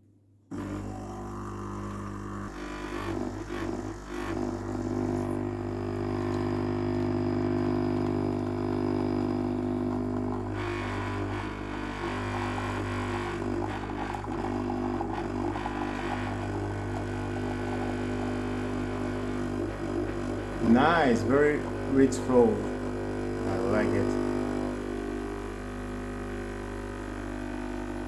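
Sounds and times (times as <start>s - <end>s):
espresso machine pump humming: 0.5s - 28.0s.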